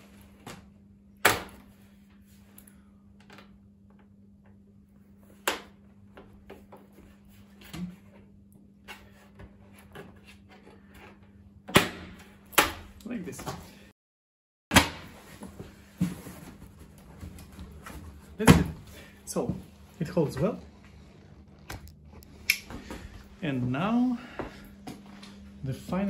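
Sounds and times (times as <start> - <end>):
faint steady hum: 0.0 - 13.9, 14.8 - 26.0.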